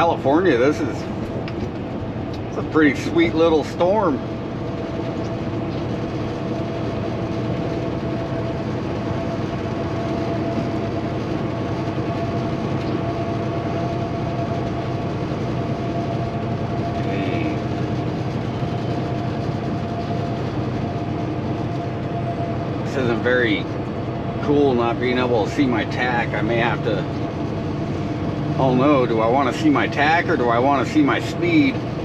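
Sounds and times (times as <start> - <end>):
diesel engine droning: 0.0 - 32.0
road and tyre noise: 0.0 - 32.0.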